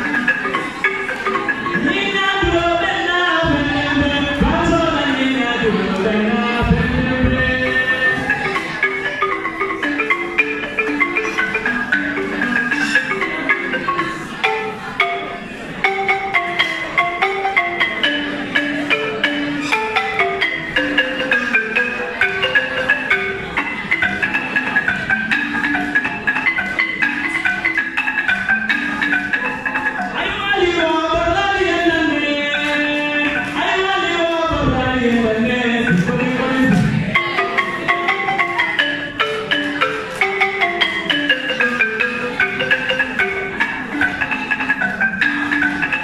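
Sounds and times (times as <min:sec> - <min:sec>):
wooden xylophone played with mallets: 0:00.0 - 0:46.0.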